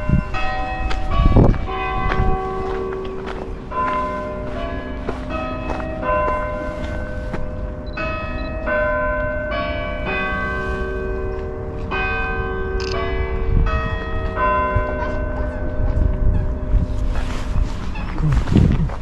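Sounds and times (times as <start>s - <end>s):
bells ringing: 0.0s - 17.1s.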